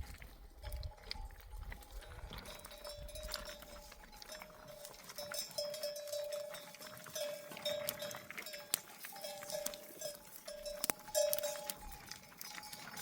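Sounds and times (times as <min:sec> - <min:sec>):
sheep bells clanking: 0:01.2 - 0:13.0.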